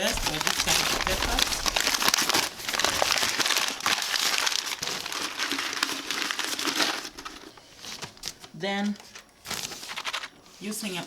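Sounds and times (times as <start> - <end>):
paper crumpling and crackling: 0.0 - 11.0.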